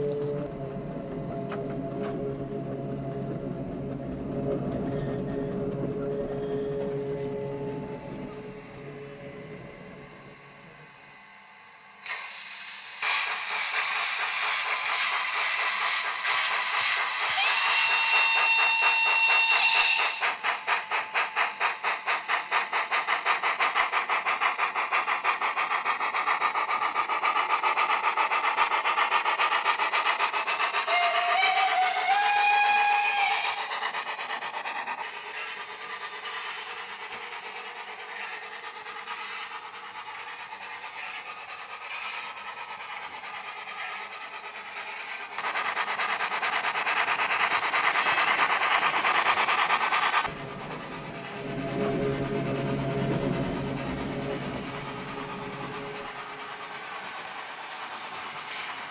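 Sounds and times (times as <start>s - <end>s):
rhythmic train running sound: 0.0s - 58.9s.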